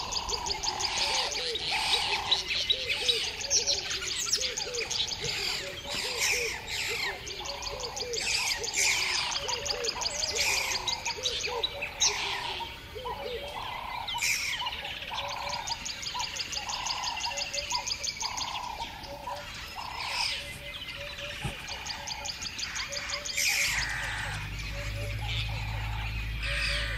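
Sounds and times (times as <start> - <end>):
birds chirping and trilling: 0.0 - 26.9
low repeated bird call: 0.0 - 26.9.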